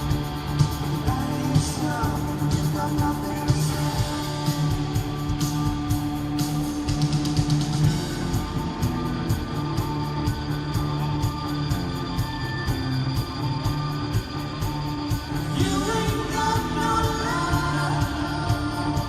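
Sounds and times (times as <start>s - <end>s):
electric guitars: 0.0s - 19.0s
steady drum beat: 0.0s - 19.0s.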